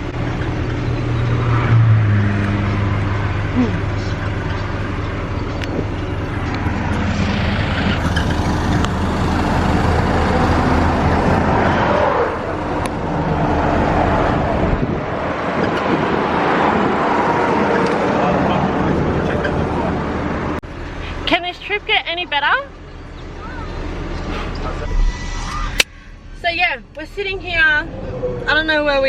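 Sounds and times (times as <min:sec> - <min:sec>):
highway traffic passing: 0:00.0 - 0:29.0
low engine hum: 0:00.0 - 0:29.0.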